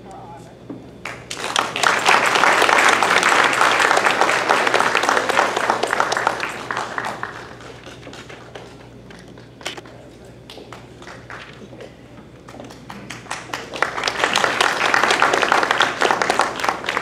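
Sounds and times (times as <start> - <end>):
audience applauding: 1.0 - 11.8, 12.5 - 17.0.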